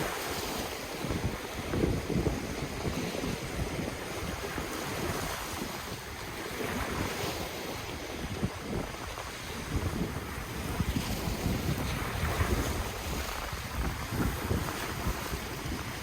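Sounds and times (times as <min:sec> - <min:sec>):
ocean waves washing in: 0:00.0 - 0:16.0
wind buffeting microphone: 0:00.0 - 0:16.0.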